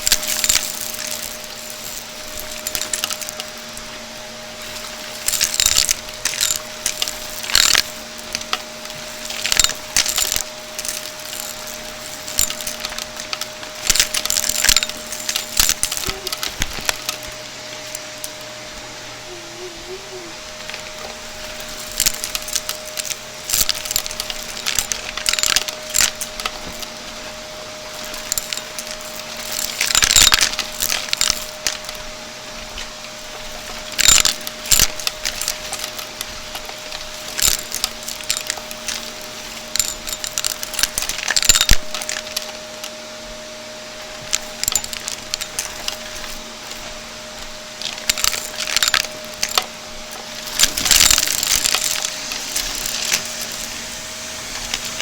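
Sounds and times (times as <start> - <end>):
debris crackling in vacuum: 0.0 - 55.0
vacuum cleaner humming: 0.0 - 55.0.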